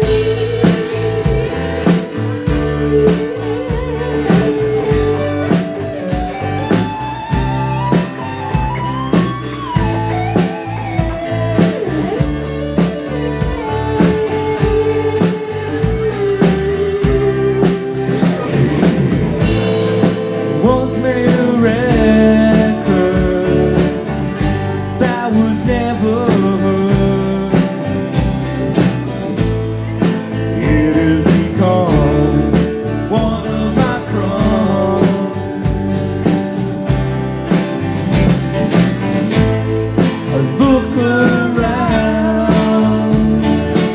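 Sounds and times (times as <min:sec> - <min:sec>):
person singing: 0:00.0 - 0:06.9, 0:09.7 - 0:28.5, 0:30.0 - 0:35.9, 0:40.0 - 0:43.9
guitars: 0:00.0 - 0:43.9
steady drum beat: 0:00.0 - 0:43.9.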